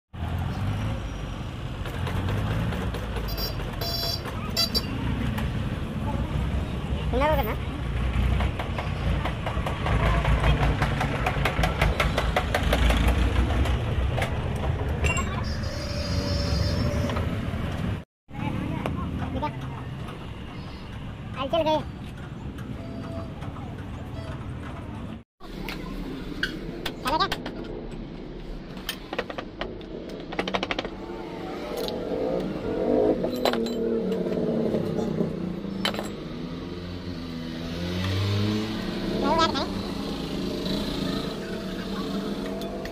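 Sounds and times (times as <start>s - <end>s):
street traffic noise: 0.1s - 42.9s.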